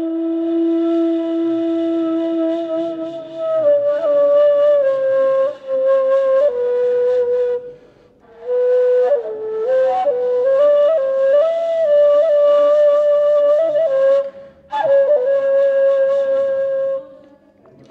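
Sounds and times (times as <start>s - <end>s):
reed flute melody: 0.0s - 17.4s.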